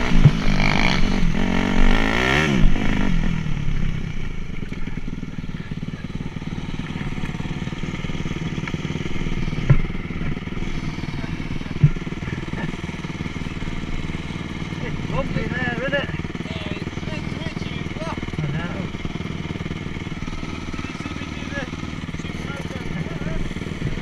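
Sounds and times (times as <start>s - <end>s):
dirt bike engine revving and idling: 0.0s - 24.0s.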